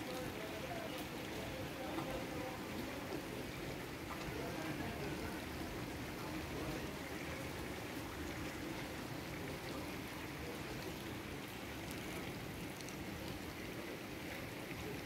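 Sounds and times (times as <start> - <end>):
rain falling on wet street: 0.0 - 15.0
raindrops ticking: 0.0 - 15.0.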